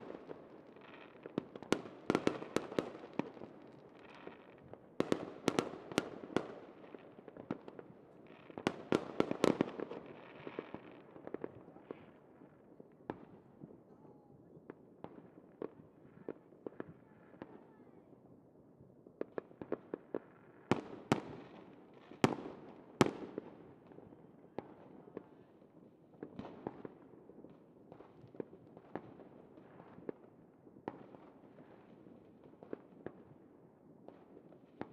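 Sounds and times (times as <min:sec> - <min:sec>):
crackling fireworks: 0:00.0 - 0:34.9.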